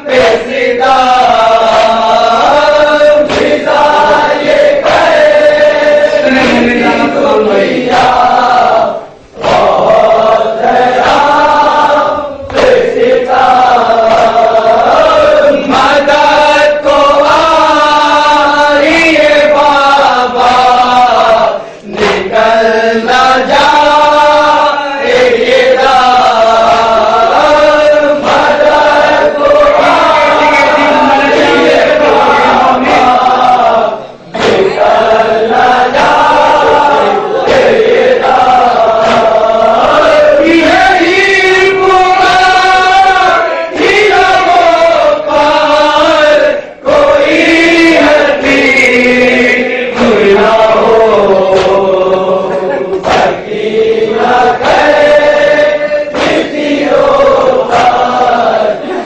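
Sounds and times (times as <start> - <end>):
men chanting a lament: 0.0 - 59.0
regular sharp beats: 0.1 - 59.0.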